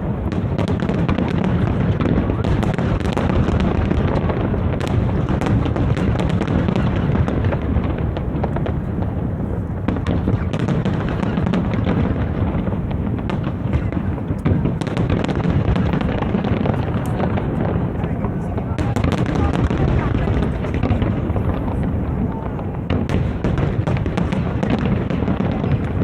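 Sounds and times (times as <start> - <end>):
fireworks booming: 0.0 - 26.0
fireworks popping and crackling: 0.0 - 26.0.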